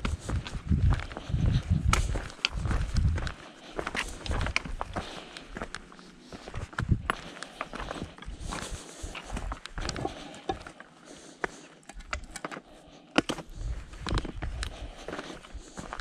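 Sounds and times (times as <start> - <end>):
footsteps crunching on stony trail: 0.0 - 16.0
walking sticks clicking on rock: 1.0 - 16.0.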